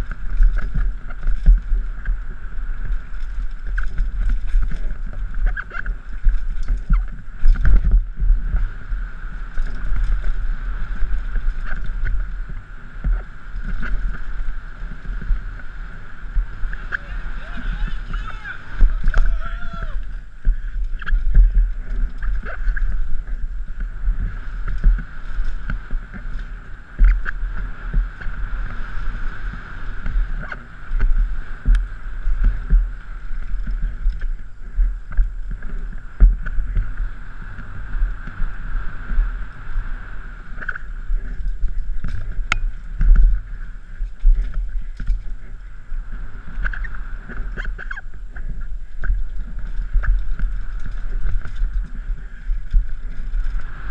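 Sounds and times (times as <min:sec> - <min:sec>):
wind rushing: 0:00.0 - 0:47.8
bike tyres rolling rumble: 0:00.0 - 0:53.9.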